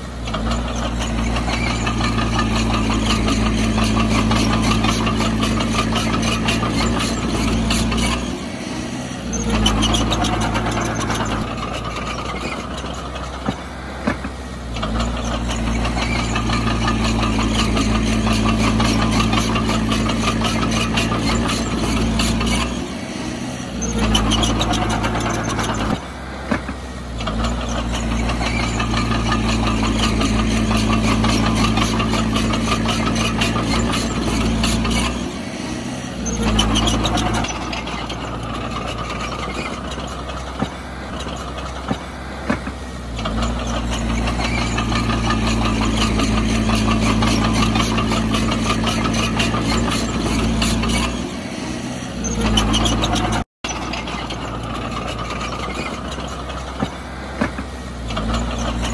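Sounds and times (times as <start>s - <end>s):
diesel machinery engine drone: 0.0s - 58.9s.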